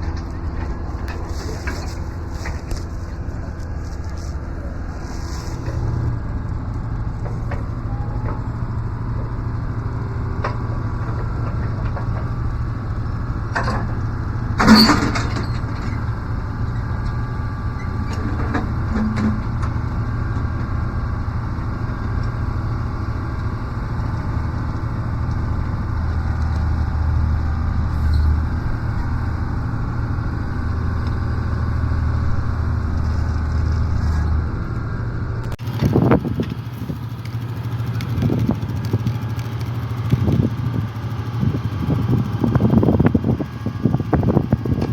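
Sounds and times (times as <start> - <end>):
crane engine running: 0.0 - 44.9
deeper engine note: 0.0 - 44.9.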